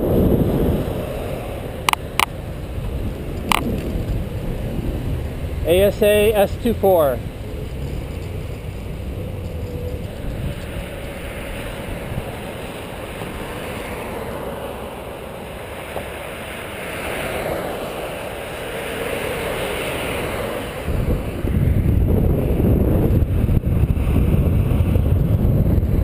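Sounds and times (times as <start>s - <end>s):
road traffic: 0.0s - 26.0s
wind rushing over microphone: 0.0s - 26.0s.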